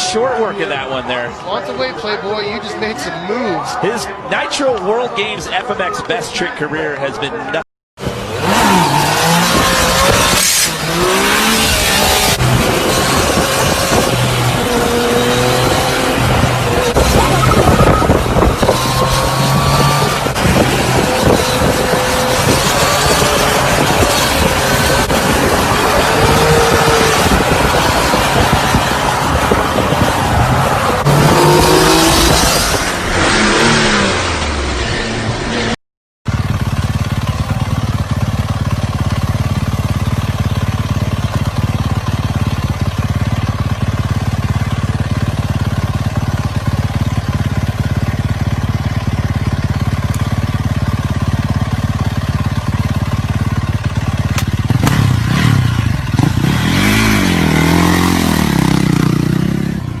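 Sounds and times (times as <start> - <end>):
dirt bike engines revving: 0.0 - 60.0.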